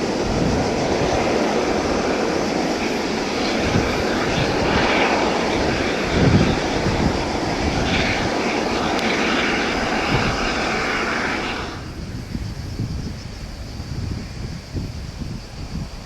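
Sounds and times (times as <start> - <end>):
turboprop engines whining: 0.0 - 16.0
wind rumbling on microphone: 0.0 - 16.0.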